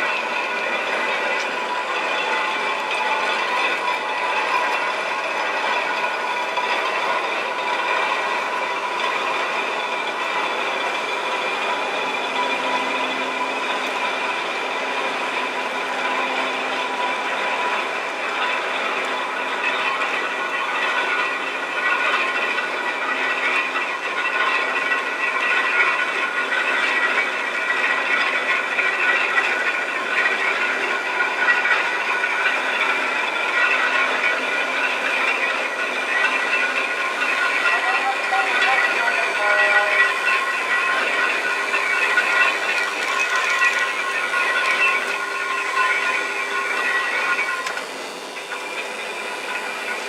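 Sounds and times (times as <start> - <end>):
railway turntable mechanical running: 0.0 - 50.0
steady whining tones: 0.0 - 50.0.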